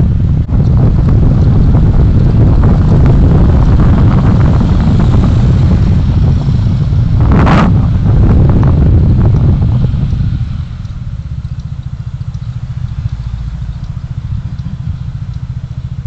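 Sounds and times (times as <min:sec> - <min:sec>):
road and wind noise rumble: 0:00.0 - 0:16.0
rush of noise: 0:00.0 - 0:16.0
wind buffeting microphone: 0:00.0 - 0:16.0.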